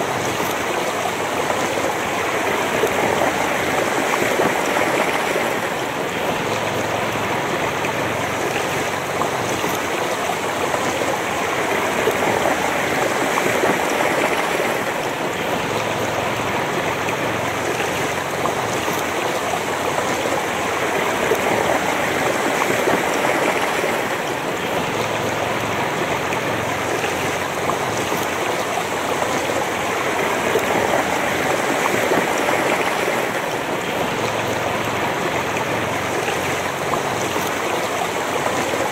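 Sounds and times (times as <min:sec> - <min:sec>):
river babbling over stones: 0:00.0 - 0:38.9.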